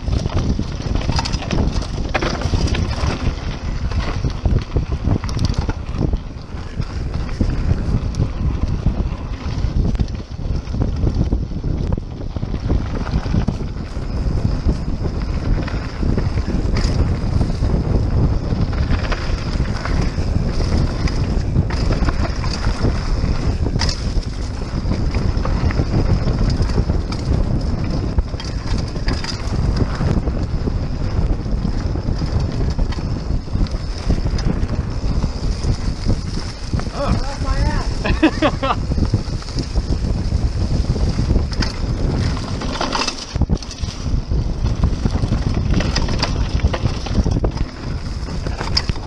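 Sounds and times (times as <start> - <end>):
bike rumbling and rattling: 0.0 - 49.0
wind buffeting microphone: 0.0 - 49.0.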